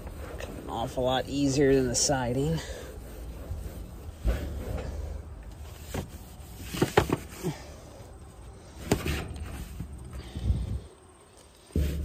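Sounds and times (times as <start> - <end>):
rag scrubbing a garage door: 0.0 - 10.3.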